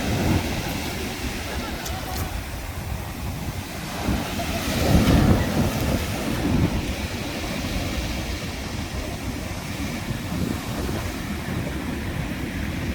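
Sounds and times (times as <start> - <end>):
ocean waves breaking on shore: 0.0 - 12.9
surf washing: 0.0 - 12.9.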